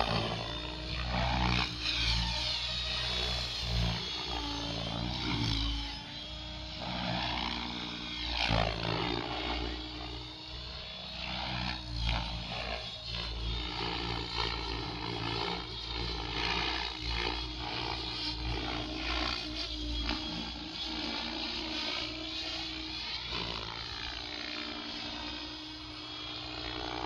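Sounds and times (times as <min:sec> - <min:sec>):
electric motor whine: 0:00.0 - 0:27.0
helicopter rotor chop: 0:00.0 - 0:27.0.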